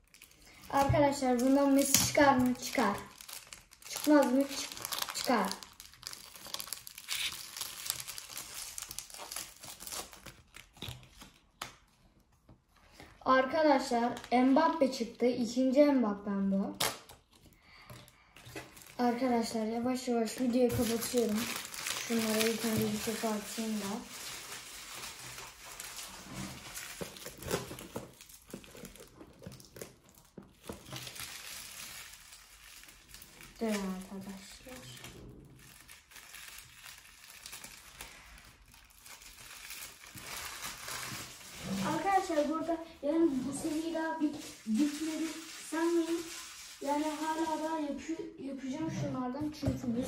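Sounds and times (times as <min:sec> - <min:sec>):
plastic wrapper crinkling: 0:00.0 - 0:13.1, 0:16.7 - 0:48.0.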